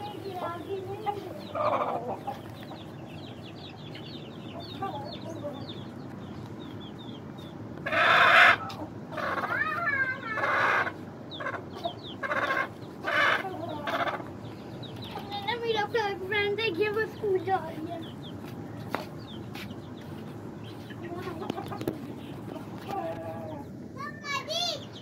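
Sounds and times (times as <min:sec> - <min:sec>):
chicken clucking: 0:00.0 - 0:23.8
chick chirping: 0:00.0 - 0:25.0.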